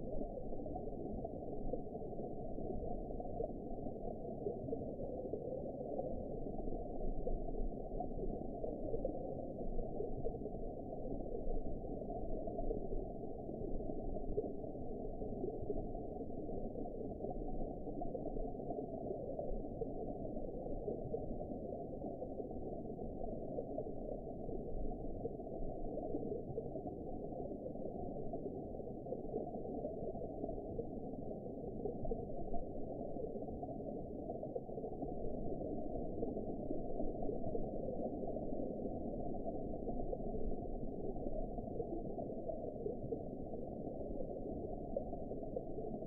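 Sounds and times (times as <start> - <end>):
muffled underwater water noise: 0.0 - 46.0.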